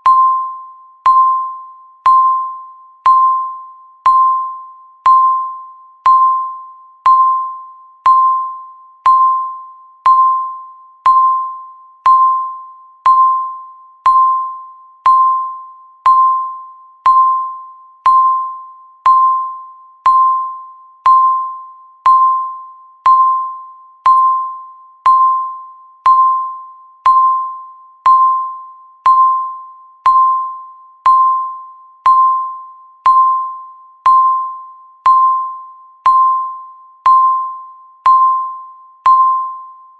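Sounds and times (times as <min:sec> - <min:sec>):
countdown timer beeping: 0:00.0 - 0:39.8.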